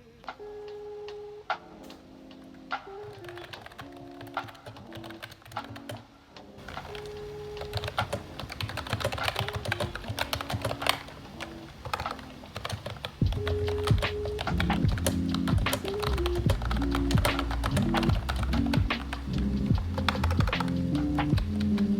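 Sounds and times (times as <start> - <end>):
background music: 0.0 - 21.9.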